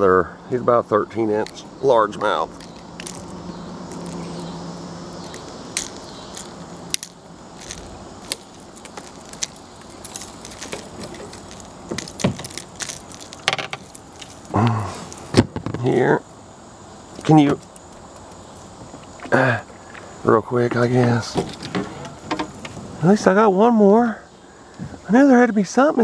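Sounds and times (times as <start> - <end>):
steady low hum: 0.0 - 25.1.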